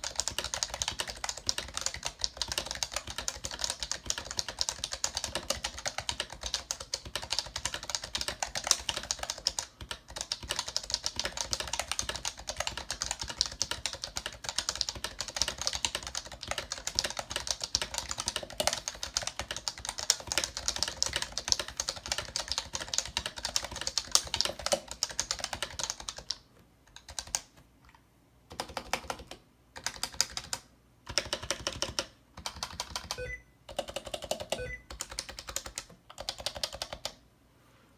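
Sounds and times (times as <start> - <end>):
fast typing on keyboard: 0.0 - 26.4, 27.0 - 27.5, 28.5 - 37.2.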